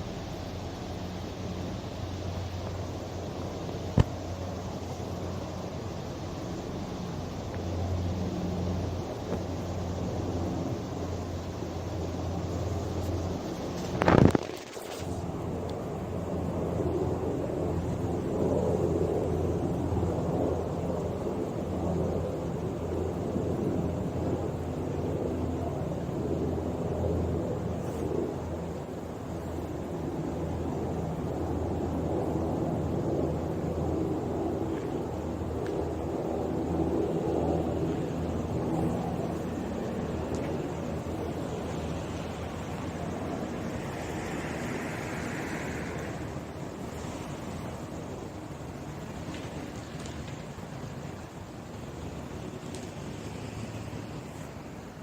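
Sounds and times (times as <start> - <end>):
distant helicopter rumble: 0.0 - 55.0.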